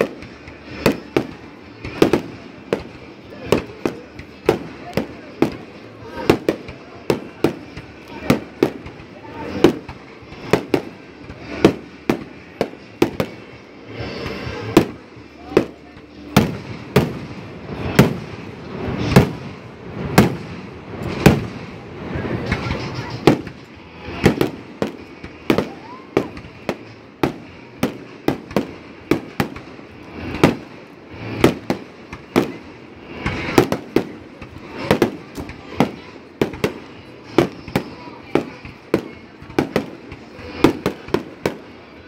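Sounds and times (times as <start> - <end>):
firework shells bursting: 0.0 - 41.8.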